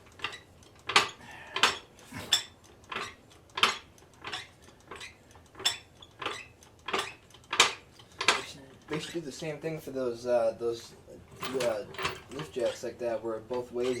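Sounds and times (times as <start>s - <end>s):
car jack clacking: 0.0s - 9.2s, 10.8s - 14.0s.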